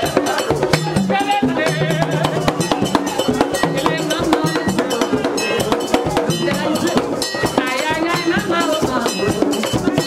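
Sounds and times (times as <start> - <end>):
clanking metal percussion: 0.0 - 10.0
hand drums: 0.0 - 10.0.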